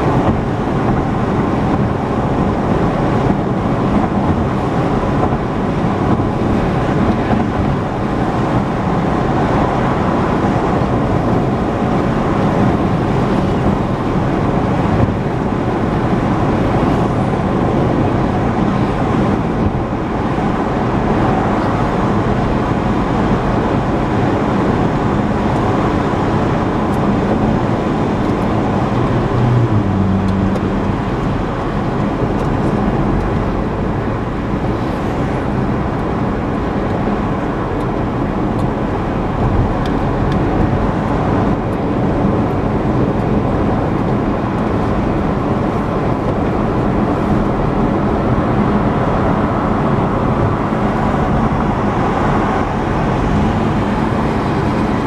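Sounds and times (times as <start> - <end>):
low engine hum: 0.0 - 55.0
wind noise: 0.0 - 55.0.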